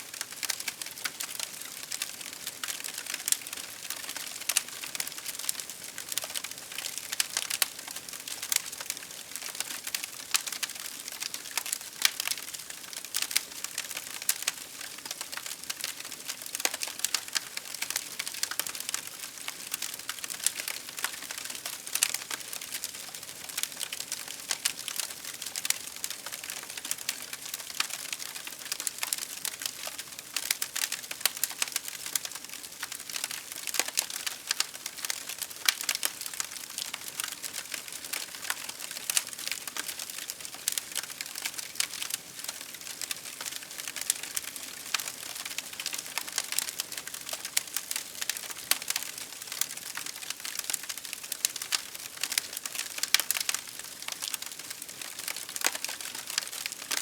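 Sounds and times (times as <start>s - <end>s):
wood fire crackling: 0.2s - 57.0s.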